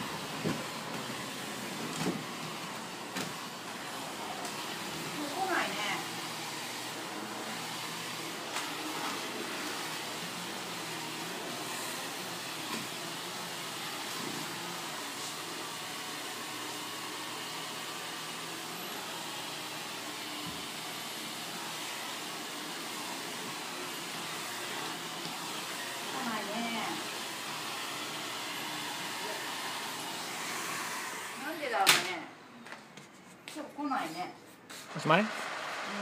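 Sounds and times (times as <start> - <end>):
vacuum cleaner running: 0.0 - 32.3, 34.7 - 36.0.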